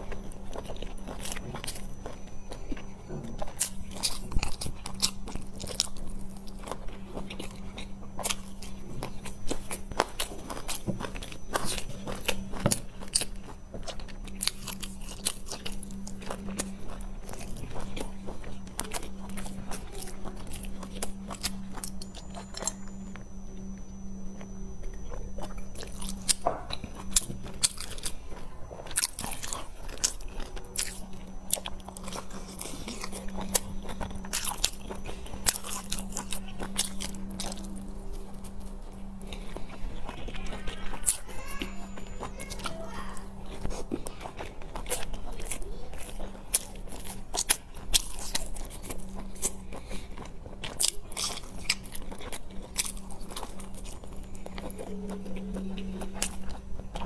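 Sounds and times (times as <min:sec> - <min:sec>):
chewing: 0:00.0 - 0:57.0
steady low hum: 0:00.0 - 0:57.0.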